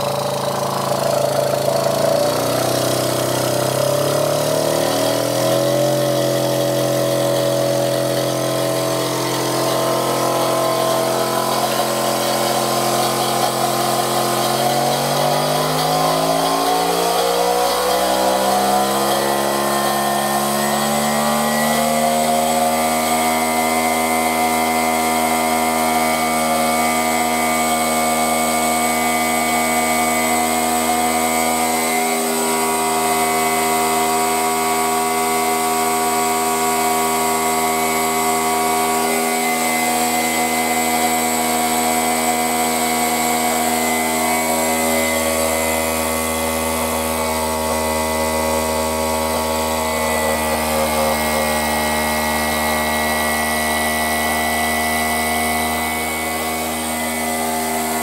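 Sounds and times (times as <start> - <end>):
compressor whining: 0.0 - 58.0.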